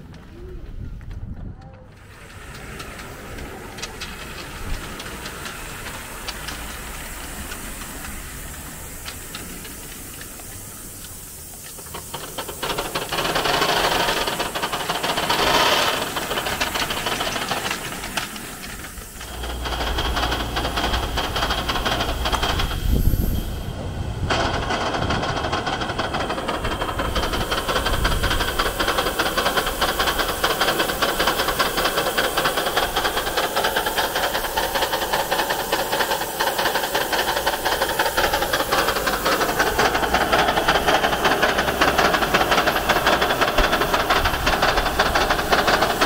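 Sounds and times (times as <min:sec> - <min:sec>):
locomotive rumbling running sound: 0:00.0 - 0:46.0
model steam locomotive hissing: 0:01.9 - 0:46.0.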